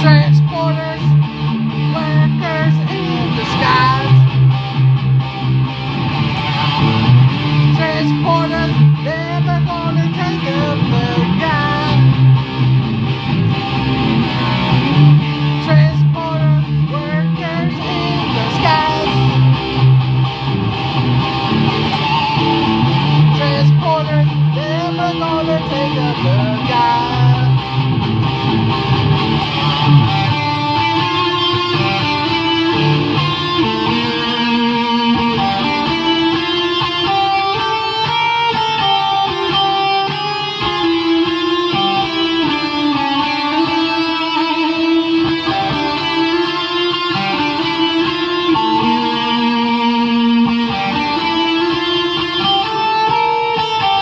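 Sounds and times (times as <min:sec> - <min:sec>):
electric guitar lead melody: 0:00.0 - 0:54.0.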